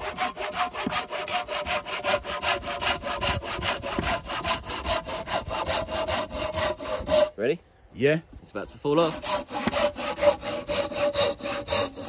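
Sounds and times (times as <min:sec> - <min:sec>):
hand saw cutting log: 0:00.0 - 0:07.4, 0:08.9 - 0:12.0.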